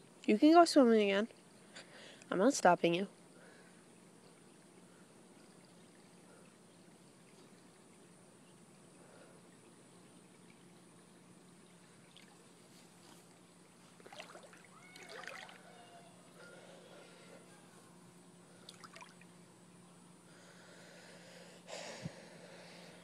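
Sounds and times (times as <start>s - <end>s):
faint trickling water: 0.0s - 17.3s, 18.1s - 20.6s.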